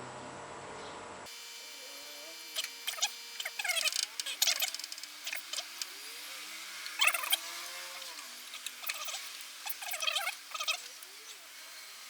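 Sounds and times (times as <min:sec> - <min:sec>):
birds chirping and twittering: 0:01.8 - 0:12.0.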